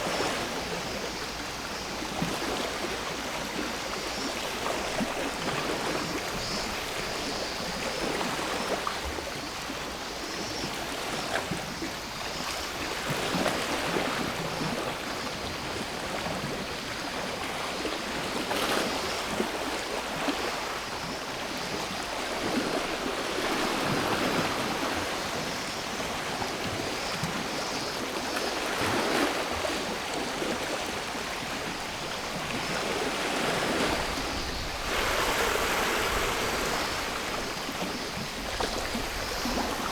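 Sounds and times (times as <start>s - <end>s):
cicadas droning: 0.0s - 39.9s
sea waves breaking on shore: 0.0s - 39.9s.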